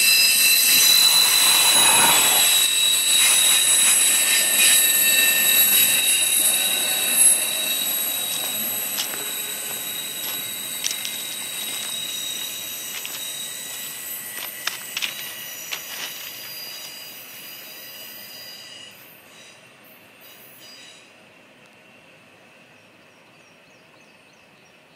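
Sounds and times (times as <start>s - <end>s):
freight train pulling away: 0.0s - 23.0s
train wheels squealing: 0.0s - 24.6s.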